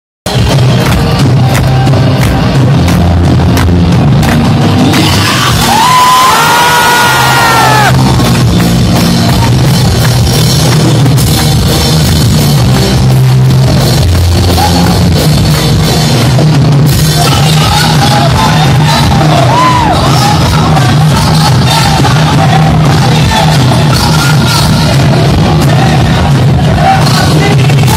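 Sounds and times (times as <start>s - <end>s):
live rock band playing loud: 0.3s - 27.9s.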